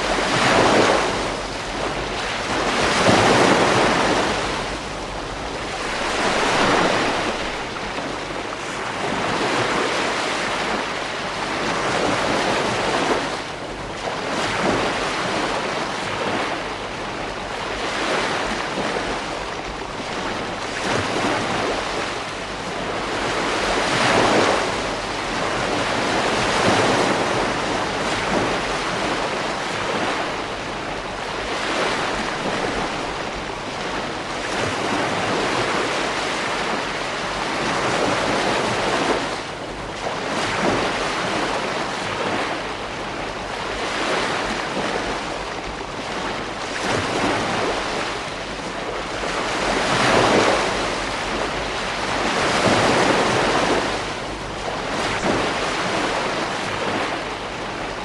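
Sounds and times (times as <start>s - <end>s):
ocean waves breaking on beach: 0.0s - 58.0s
wind on microphone: 0.0s - 58.0s.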